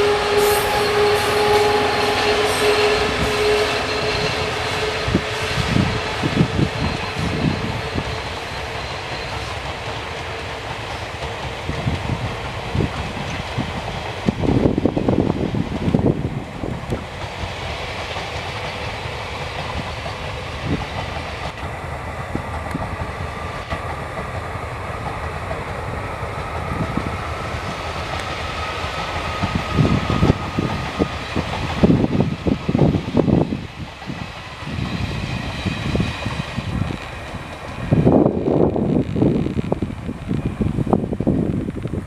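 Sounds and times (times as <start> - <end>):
clickety-clack over rail joints: 0.0 - 42.0
train wheels rumbling on rail: 0.0 - 42.0
wind buffeting microphone: 0.0 - 42.0.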